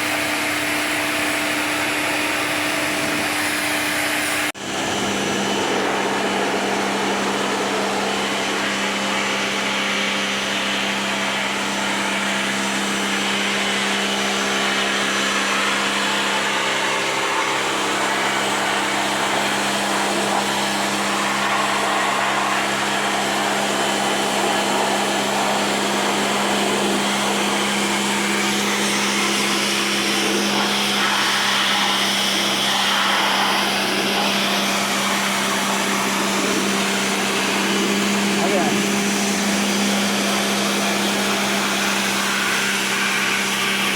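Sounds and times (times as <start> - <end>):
pressure washer pump humming: 0.0 - 43.9
water spray hissing: 5.6 - 43.9.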